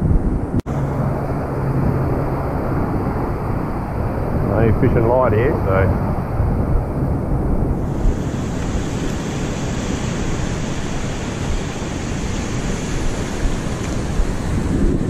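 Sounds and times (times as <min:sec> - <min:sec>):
wind buffeting microphone: 0:00.0 - 0:15.0
surf washing up a beach: 0:00.7 - 0:15.0.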